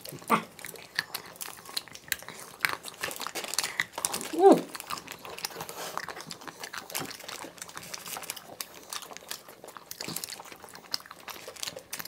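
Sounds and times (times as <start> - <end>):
wet eating sounds: 0.0 - 12.0
wrapper crinkling: 0.0 - 12.0.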